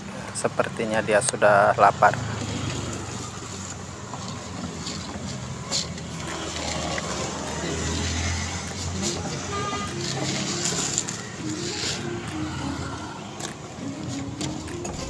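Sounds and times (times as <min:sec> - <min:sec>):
cars and motorcycles driving past: 0:00.0 - 0:15.0.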